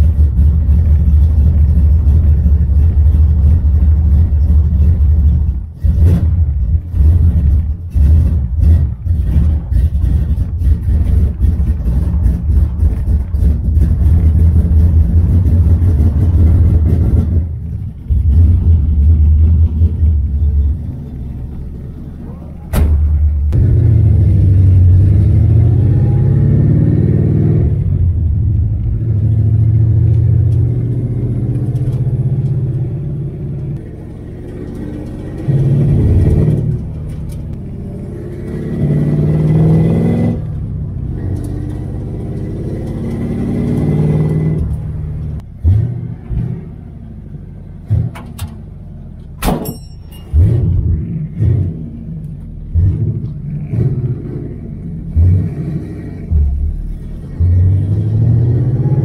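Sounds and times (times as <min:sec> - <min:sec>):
car engine accelerating: 0:00.0 - 0:49.5, 0:50.2 - 0:59.0.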